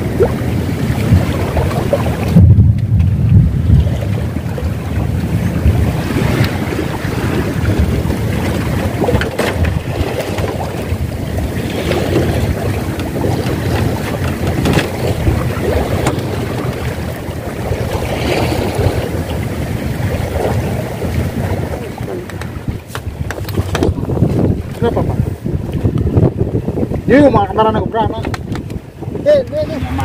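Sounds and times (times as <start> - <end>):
waves lapping: 0.0 - 30.0
wind buffeting microphone: 0.0 - 30.0.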